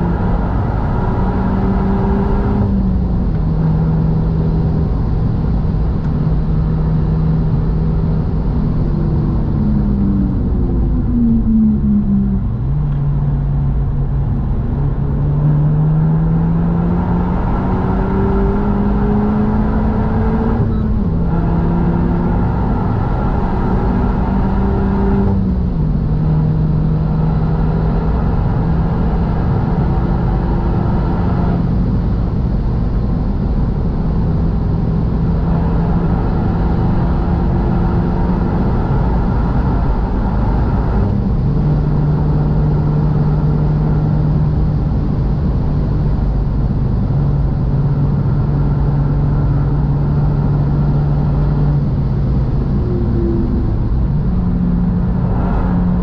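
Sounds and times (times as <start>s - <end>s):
car engine at speed: 0.0s - 56.0s.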